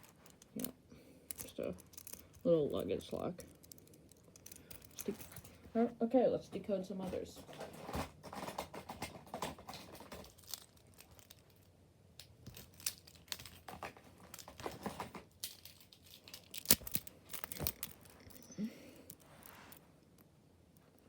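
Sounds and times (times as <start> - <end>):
crinkling and rustling: 0.0 - 21.0.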